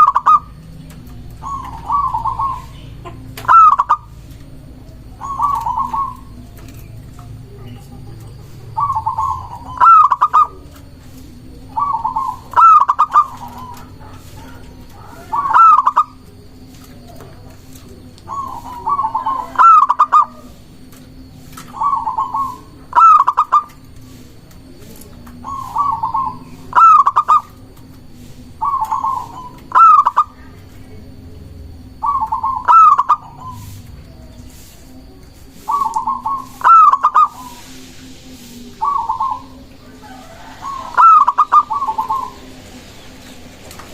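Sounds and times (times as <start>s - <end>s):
dove cooing: 0.0s - 43.9s.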